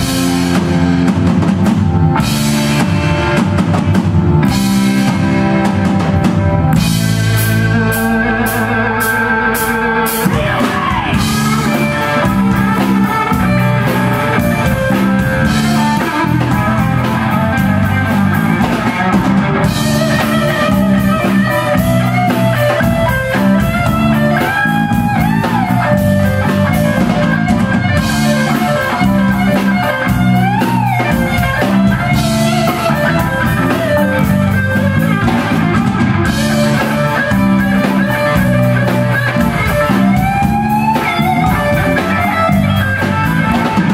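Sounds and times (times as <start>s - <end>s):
bent guitar notes: 0.0s - 43.9s
live rock band: 0.0s - 43.9s.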